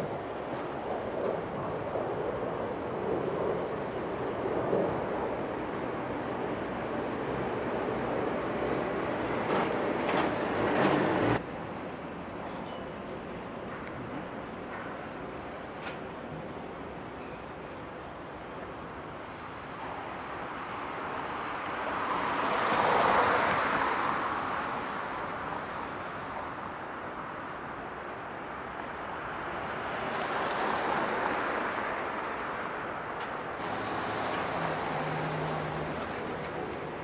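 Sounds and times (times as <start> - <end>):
vehicles passing: 0.0 - 16.0, 19.6 - 27.5, 28.3 - 37.0.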